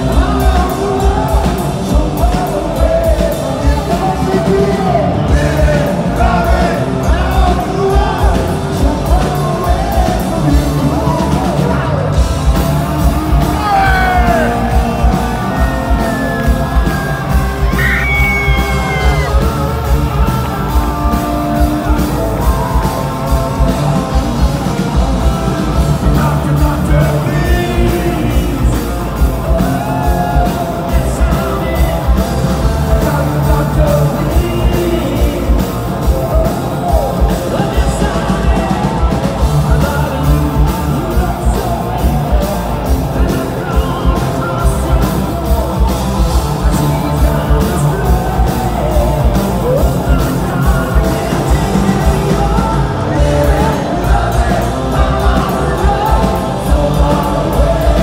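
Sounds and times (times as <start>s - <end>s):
drums and bass: 0.0s - 58.0s
electric guitar: 0.0s - 58.0s
person singing: 0.0s - 58.0s.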